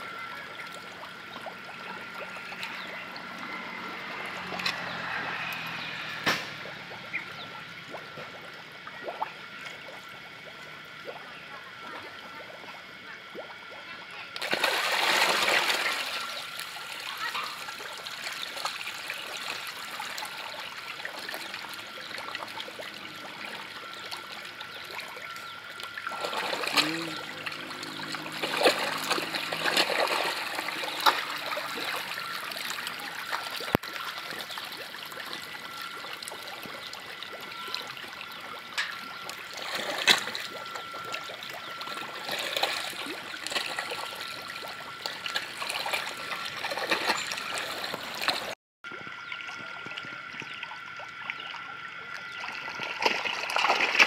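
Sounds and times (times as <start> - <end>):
fish thrashing and splashing: 0.7 - 7.2, 14.4 - 24.0, 24.8 - 51.3, 52.2 - 54.0.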